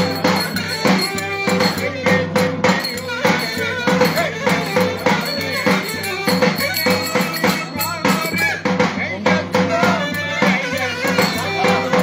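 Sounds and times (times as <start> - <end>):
folk melody instrument: 0.0 - 12.0
steady drum beat: 0.0 - 12.0.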